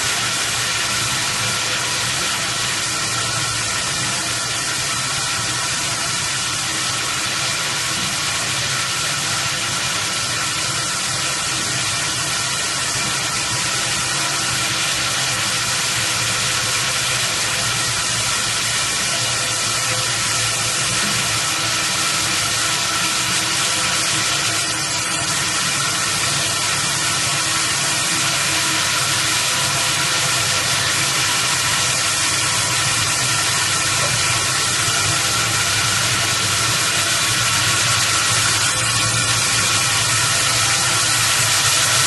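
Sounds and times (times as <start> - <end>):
machine steady hiss: 0.0 - 42.0
motors and rollers humming: 0.0 - 42.0.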